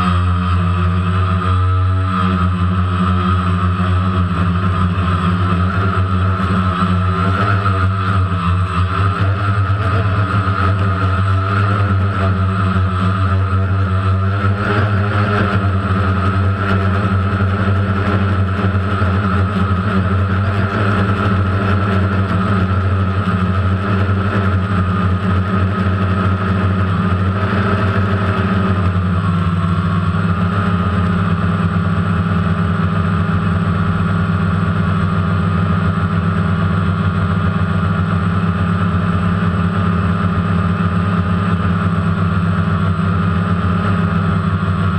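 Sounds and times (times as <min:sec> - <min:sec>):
drone propellers buzzing: 0:00.0 - 0:44.9.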